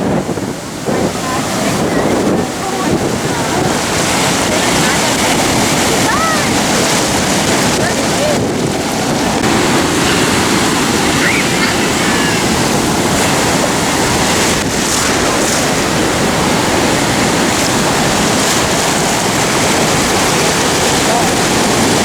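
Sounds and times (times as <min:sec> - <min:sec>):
ocean waves washing in: 0:00.0 - 0:22.0.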